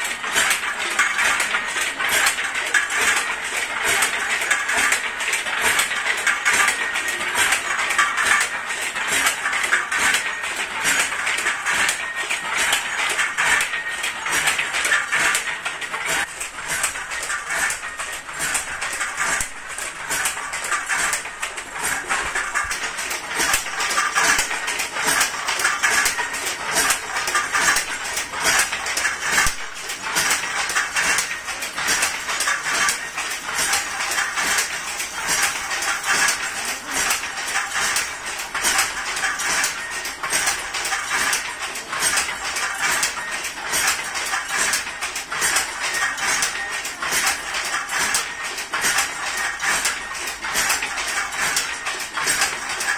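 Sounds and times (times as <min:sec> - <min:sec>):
loom mechanical clatter: 0:00.0 - 0:52.9.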